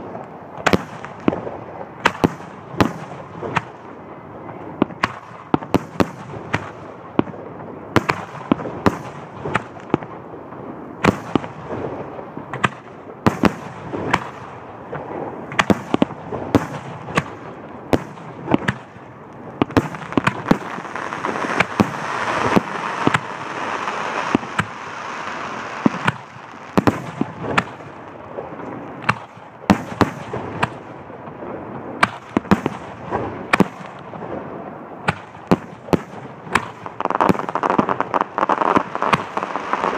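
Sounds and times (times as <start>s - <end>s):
fireworks bangs: 0.6s - 3.8s, 4.4s - 39.9s.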